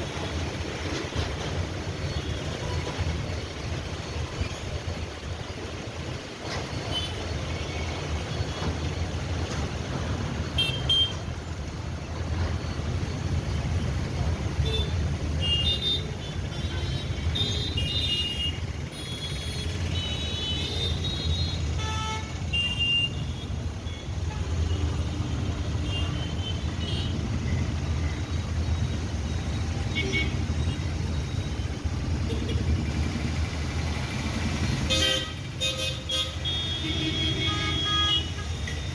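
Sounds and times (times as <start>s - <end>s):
traffic engine rumble: 0.0s - 38.9s.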